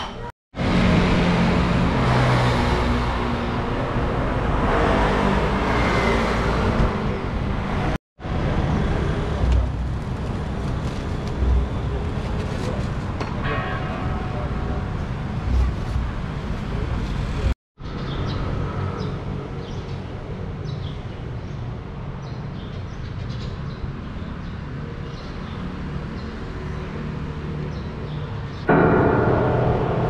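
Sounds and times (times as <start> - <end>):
traffic rumbling: 0.0 - 22.6, 23.8 - 30.0
street hum: 0.0 - 30.0.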